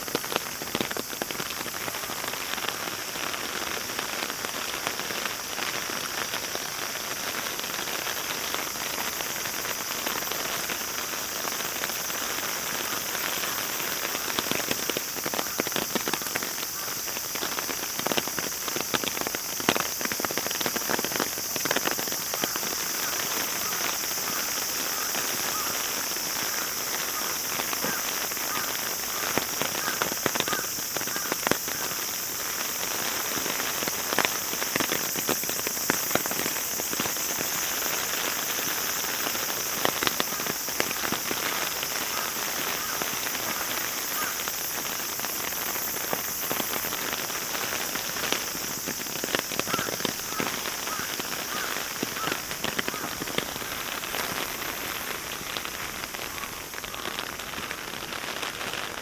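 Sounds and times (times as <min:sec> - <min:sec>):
heavy rain falling: 0:00.0 - 0:59.0
raindrop hits close by: 0:00.0 - 0:59.0.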